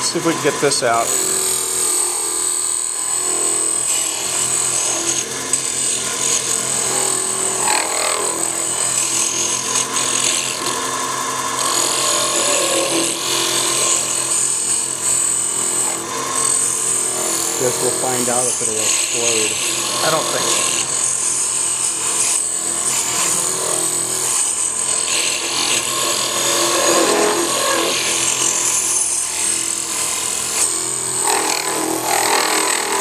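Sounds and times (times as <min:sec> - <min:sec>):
lathe motor hum: 0:00.0 - 0:33.0
turning tool scraping wood: 0:01.9 - 0:33.0.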